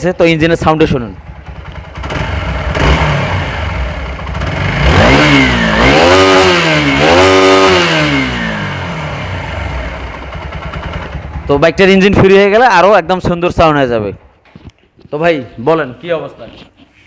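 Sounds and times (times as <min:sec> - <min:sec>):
motorcycle engine idling and revving: 0:00.0 - 0:14.1.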